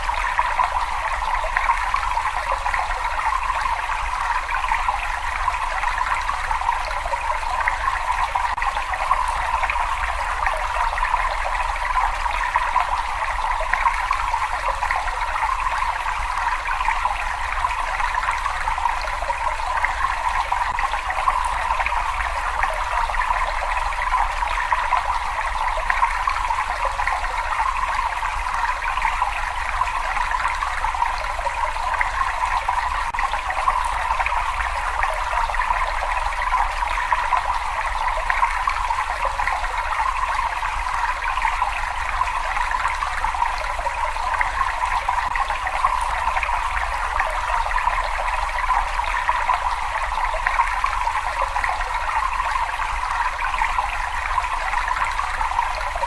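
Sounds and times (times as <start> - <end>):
water running and trickling: 0.0 - 56.0.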